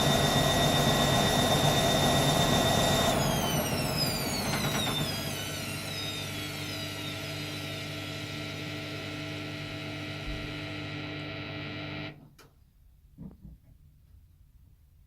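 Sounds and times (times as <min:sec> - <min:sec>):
washing machine humming: 0:00.0 - 0:12.2.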